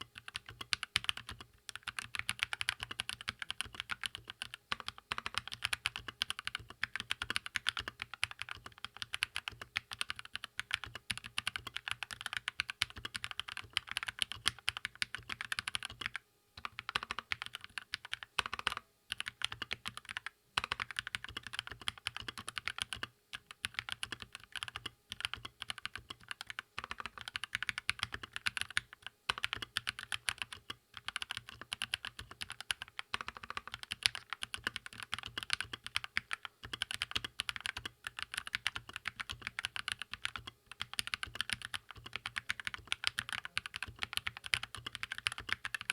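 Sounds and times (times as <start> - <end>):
mechanical keyboard typing: 0.0 - 45.9.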